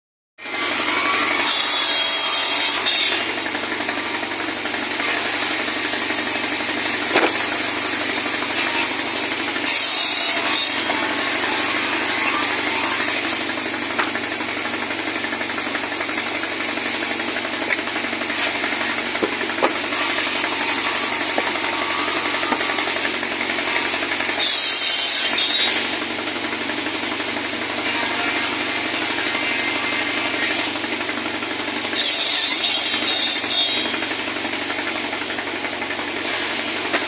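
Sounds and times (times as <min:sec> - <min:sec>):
saw cutting wood: 0:00.4 - 0:37.0.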